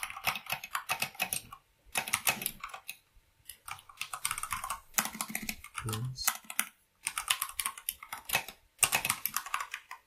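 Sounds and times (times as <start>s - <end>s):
typing on a keyboard: 0.0s - 10.0s.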